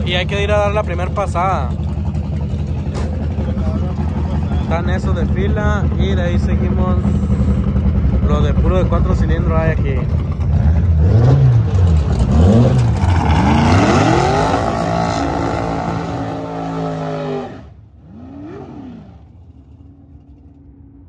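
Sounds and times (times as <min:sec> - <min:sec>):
drag car engine revving: 0:00.0 - 0:20.6
engine idling: 0:00.0 - 0:21.0.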